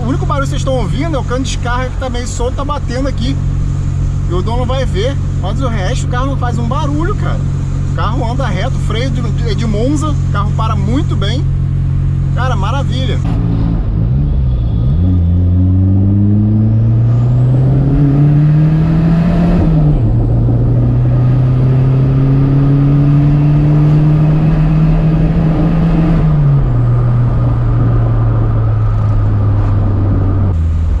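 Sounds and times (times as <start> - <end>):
car engine revving under load: 0.0 - 31.0.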